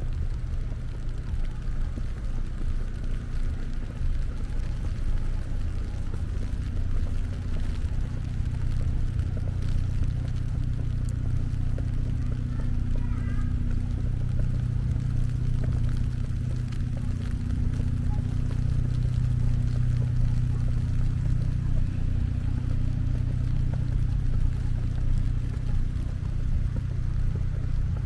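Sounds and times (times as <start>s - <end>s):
street noise: 0.0s - 28.0s
vehicle engine humming: 0.0s - 28.0s.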